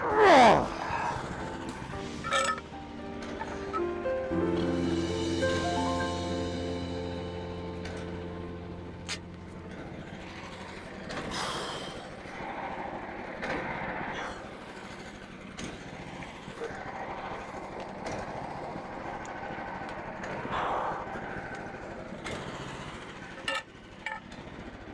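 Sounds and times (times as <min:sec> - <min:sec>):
small gas engine running: 0:00.7 - 0:24.9.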